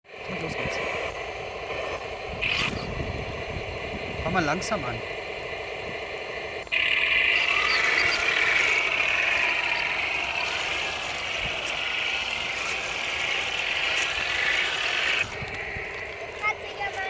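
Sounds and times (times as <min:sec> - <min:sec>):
electric drive motors whirring: 0:00.1 - 0:17.0
toy tank sound unit humming: 0:00.1 - 0:17.0.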